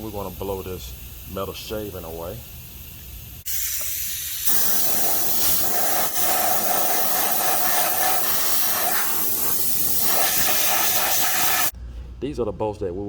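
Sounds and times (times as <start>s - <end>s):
air blow gun hissing: 0.0s - 11.8s.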